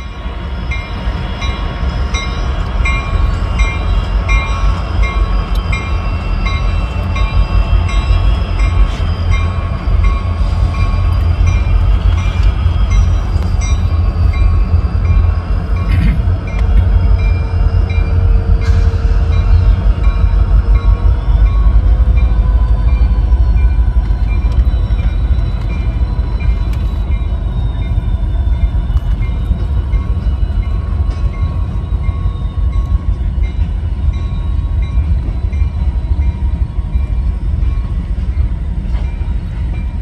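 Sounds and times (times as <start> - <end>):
locomotive engines rumbling: 0.0 - 40.0.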